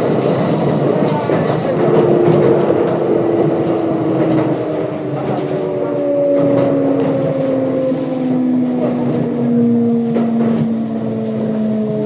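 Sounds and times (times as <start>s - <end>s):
train inverter and motors whining: 0.0s - 12.0s.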